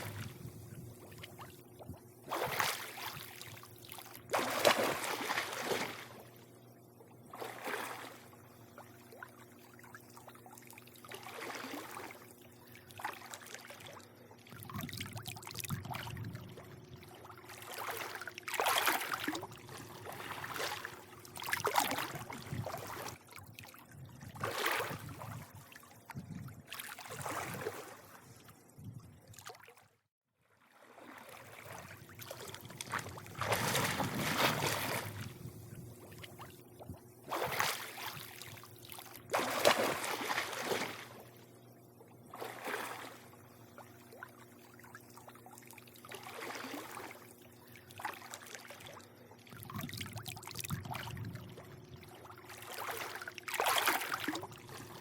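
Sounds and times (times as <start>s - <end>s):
steady low hum: 0.0s - 29.4s, 31.1s - 55.0s
pool water lapping: 0.0s - 55.0s.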